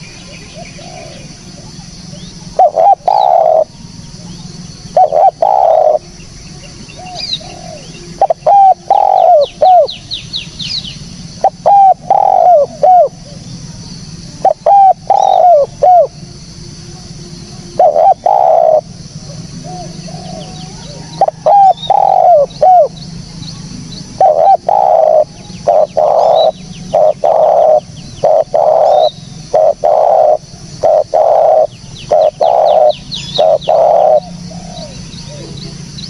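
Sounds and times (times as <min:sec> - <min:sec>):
dove cooing: 0:00.0 - 0:16.3, 0:17.6 - 0:23.2, 0:24.1 - 0:36.0
small birds chirping faintly: 0:00.0 - 0:36.0.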